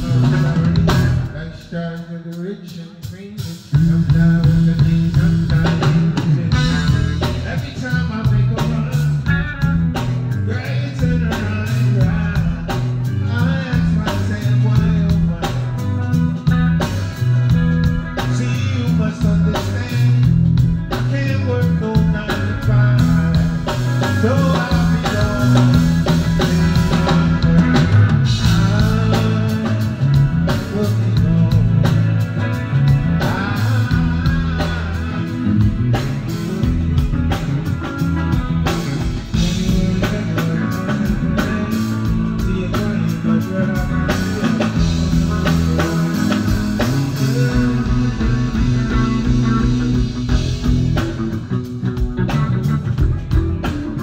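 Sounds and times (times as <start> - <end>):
drum kit: 0.0 - 54.0
electric guitar: 0.0 - 54.0
man singing: 0.0 - 54.0.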